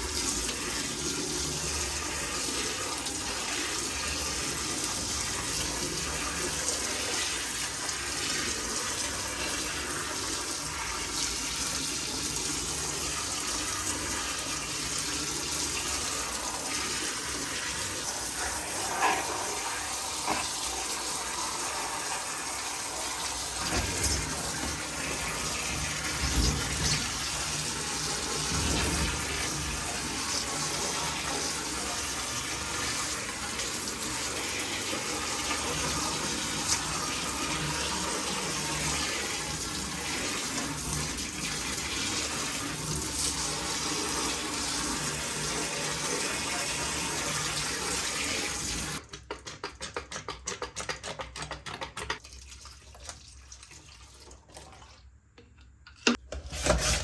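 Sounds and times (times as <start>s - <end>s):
running water: 0.0s - 49.1s.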